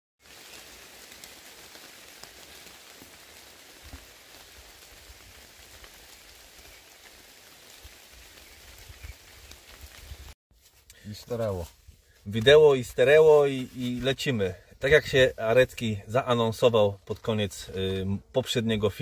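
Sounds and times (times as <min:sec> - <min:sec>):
steady rain on leaves: 0:00.2 - 0:15.9.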